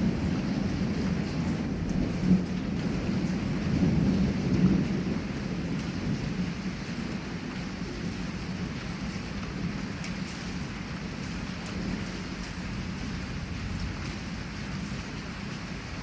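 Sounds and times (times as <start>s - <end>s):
heavy rain pouring: 0.0s - 16.0s
low roll of thunder: 0.0s - 16.0s.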